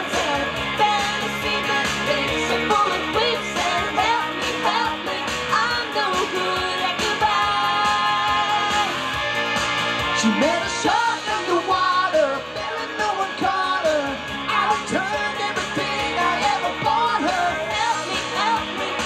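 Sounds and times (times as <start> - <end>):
person singing: 0.0 - 9.1, 10.2 - 19.0
pop-rock backing track: 0.0 - 19.0.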